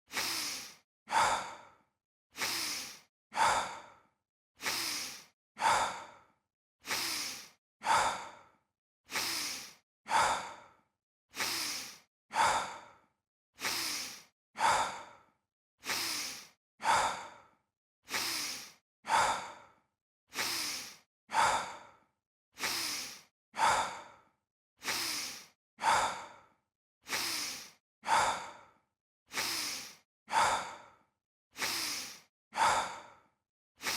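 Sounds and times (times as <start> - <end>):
person breathing in sighs: 0.1 - 33.9.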